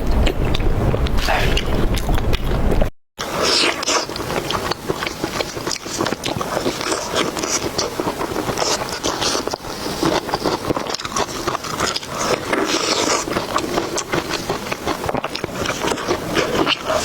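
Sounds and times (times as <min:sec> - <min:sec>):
person chewing and biting food: 0:00.0 - 0:17.0.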